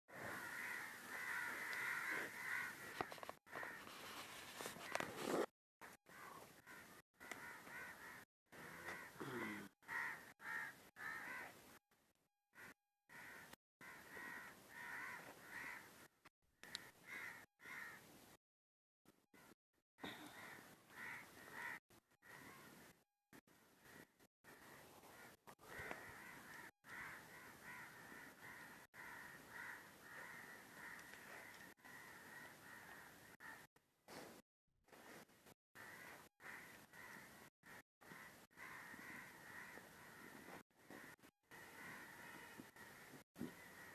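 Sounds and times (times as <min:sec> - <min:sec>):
crows cawing: 0:00.1 - 0:04.2, 0:05.8 - 0:11.6, 0:12.5 - 0:18.1, 0:19.4 - 0:22.9, 0:23.8 - 0:33.7, 0:35.8 - 0:43.9.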